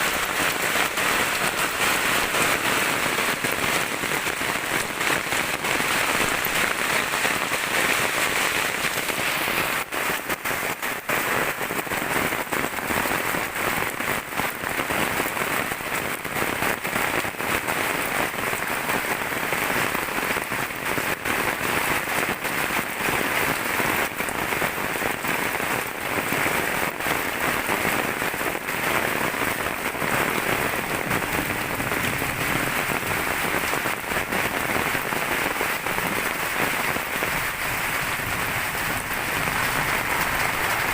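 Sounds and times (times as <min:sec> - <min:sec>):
heavy rain pattering: 0:00.0 - 0:40.9.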